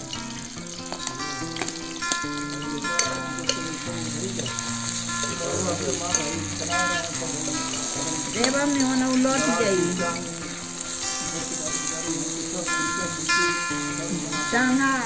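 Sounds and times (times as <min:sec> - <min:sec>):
instrumental background music: 0:00.0 - 0:15.0
onions sizzling in oil: 0:00.0 - 0:15.0.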